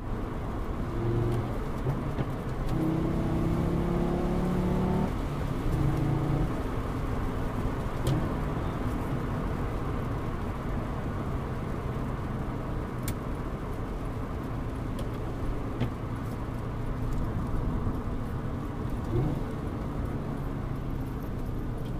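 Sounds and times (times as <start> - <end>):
car engine running at cruise: 0.0 - 21.9
tyre noise on wet road: 0.0 - 21.9.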